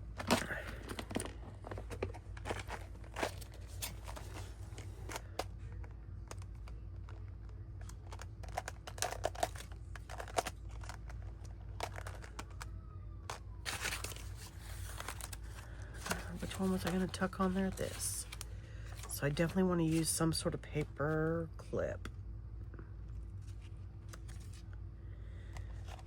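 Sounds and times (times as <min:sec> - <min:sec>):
paper rustling and crinkling: 0:00.0 - 0:20.9, 0:23.3 - 0:24.8, 0:25.4 - 0:26.0.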